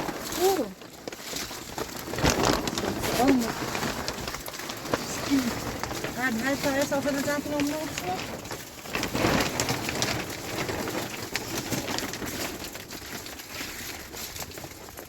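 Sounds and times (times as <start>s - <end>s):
rain pattering on a surface: 0.0s - 15.0s.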